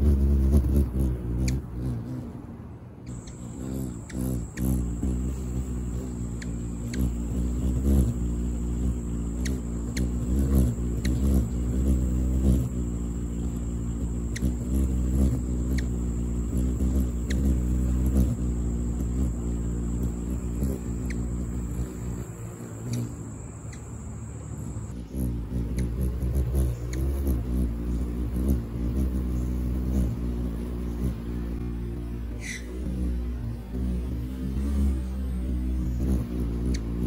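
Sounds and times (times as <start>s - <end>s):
hummingbird wings humming: 0.0s - 37.0s.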